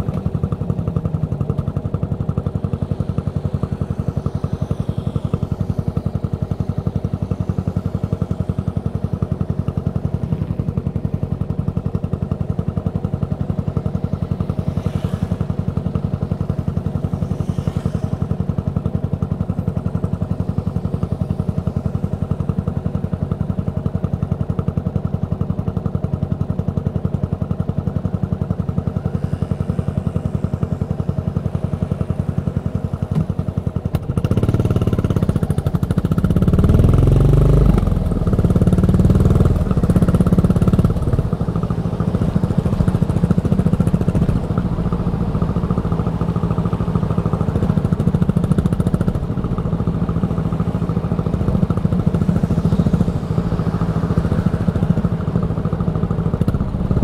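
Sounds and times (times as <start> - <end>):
motorcycle engine revving: 0.0 - 24.8, 26.8 - 57.0.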